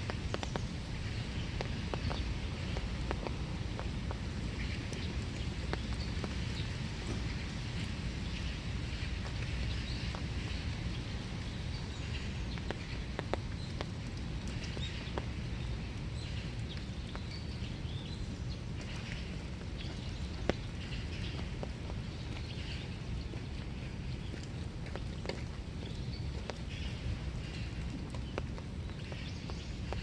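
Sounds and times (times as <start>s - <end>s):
drops ticking close by: 0.0s - 6.7s, 11.1s - 30.0s
rain falling in woodland: 0.0s - 30.0s
small birds chirping: 0.0s - 30.0s.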